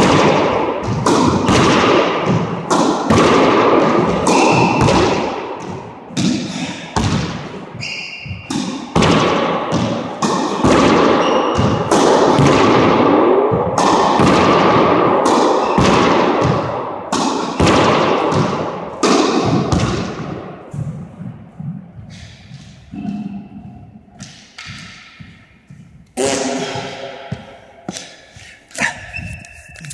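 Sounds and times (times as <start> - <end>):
ball hits echoing in a court: 0.0 - 28.4.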